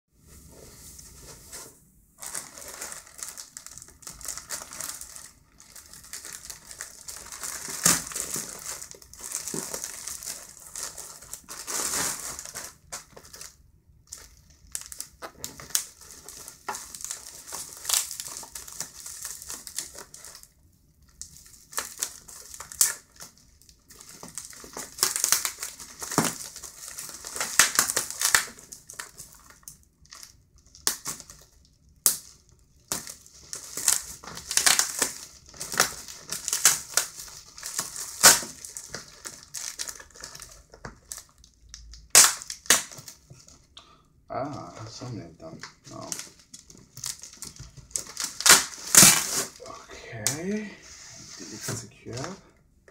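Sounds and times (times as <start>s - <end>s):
plastic bag and bubble wrap crinkling: 0.3s - 52.9s.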